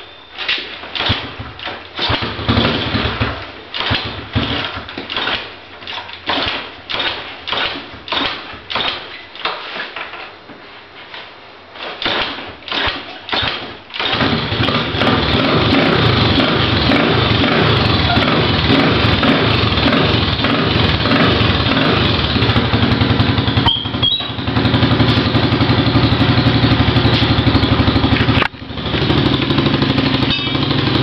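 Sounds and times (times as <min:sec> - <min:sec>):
dirt bike engine cranking and running: 0:00.4 - 0:09.5, 0:12.0 - 0:31.0.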